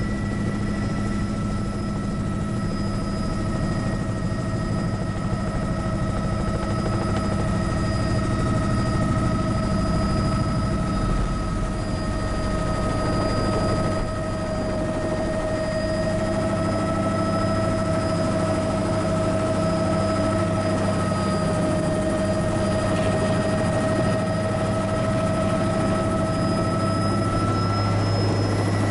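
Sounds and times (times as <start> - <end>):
helicopter rotor beat: 0.0 - 28.9
helicopter turbine whine: 0.0 - 28.9.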